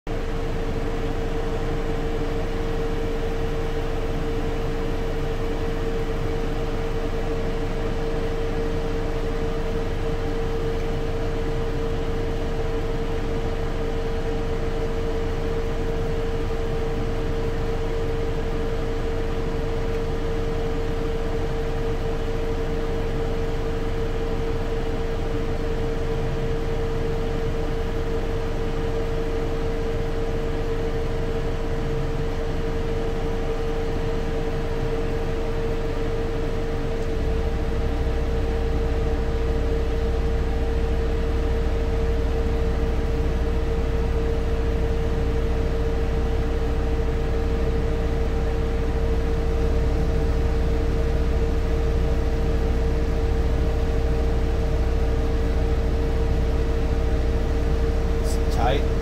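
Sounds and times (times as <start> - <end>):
steady machine drone: 0.1 - 59.0.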